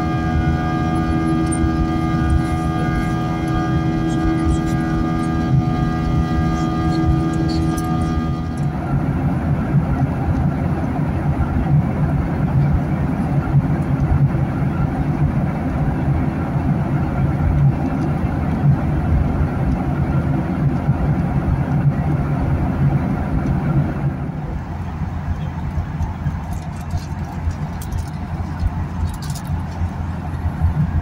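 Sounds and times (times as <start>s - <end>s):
jet engines humming: 0.0s - 31.0s.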